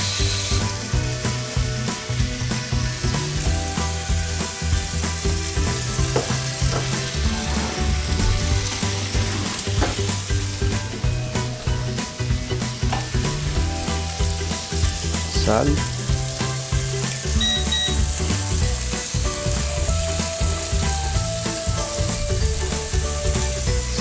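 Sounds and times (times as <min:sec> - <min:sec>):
background music with bass: 0:00.0 - 0:24.0
chicken sizzling in a pan: 0:00.0 - 0:24.0.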